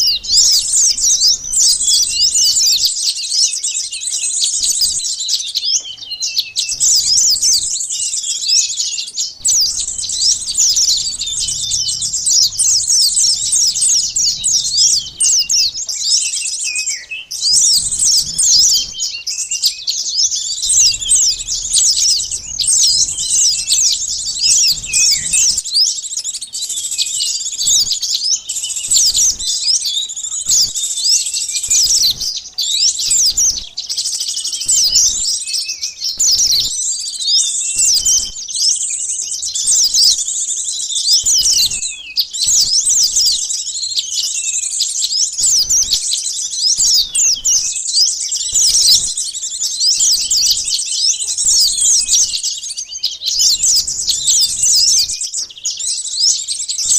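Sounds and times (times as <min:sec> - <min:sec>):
flock of birds chirping: 0:00.0 - 0:56.9.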